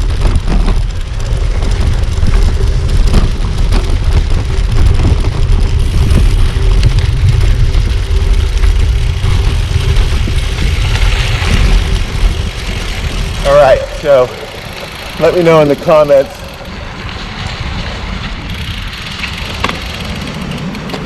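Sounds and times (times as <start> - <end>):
bicycle knocks and rattles: 0.0 - 21.0
low tyre rumble: 0.0 - 21.0
wind buffeting microphone: 0.0 - 21.0.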